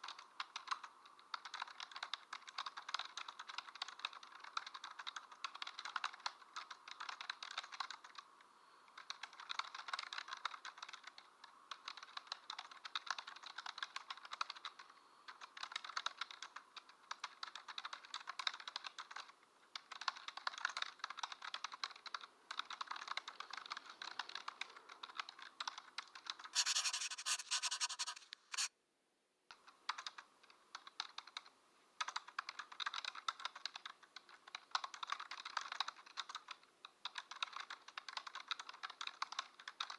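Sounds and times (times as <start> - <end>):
keyboard typing: 0.0 - 8.2, 9.0 - 28.7, 29.6 - 39.9.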